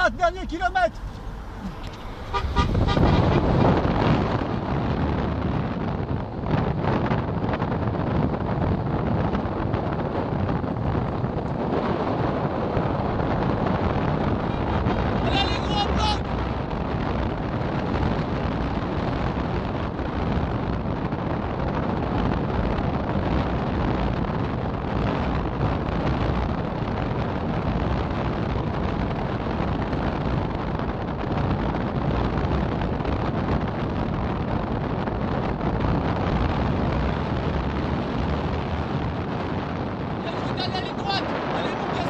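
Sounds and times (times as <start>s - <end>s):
car road noise: 0.0s - 42.0s
wind rushing over microphone: 0.0s - 42.0s.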